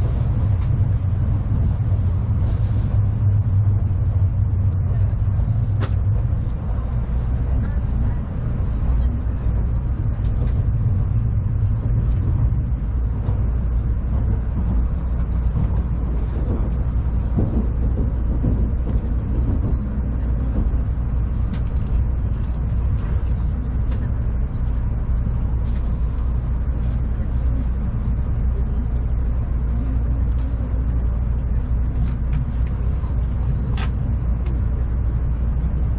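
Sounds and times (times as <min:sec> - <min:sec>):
train interior rumble: 0:00.0 - 0:35.9.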